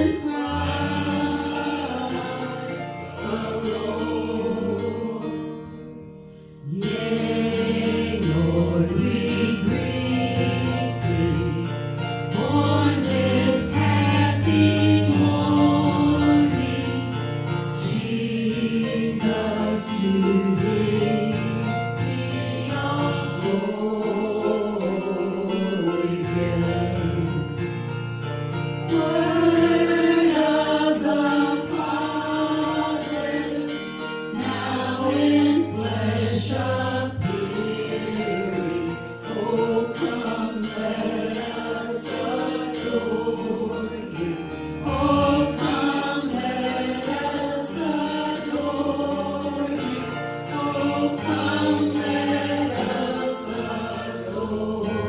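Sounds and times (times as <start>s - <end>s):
voices singing gospel: 0.0s - 6.0s, 6.7s - 27.5s, 28.8s - 55.0s
instrumental accompaniment: 0.0s - 55.0s.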